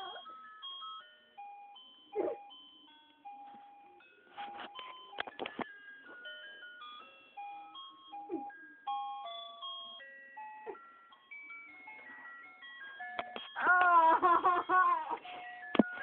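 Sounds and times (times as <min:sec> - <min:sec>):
slow simple music of held notes: 0:00.0 - 0:16.0.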